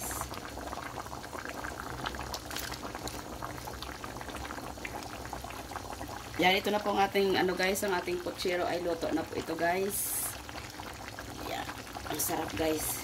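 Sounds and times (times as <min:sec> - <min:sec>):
broth bubbling and popping: 0:00.0 - 0:13.0.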